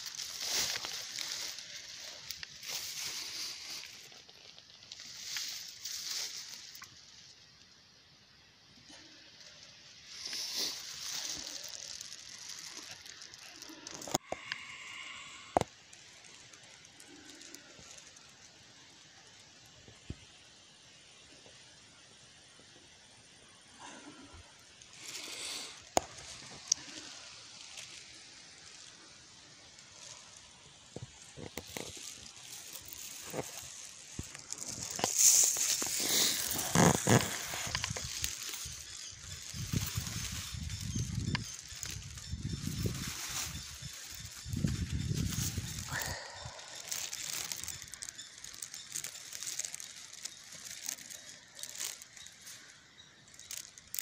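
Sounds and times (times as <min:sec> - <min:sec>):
rustling leaves and bramble stems: 0:00.0 - 0:54.0.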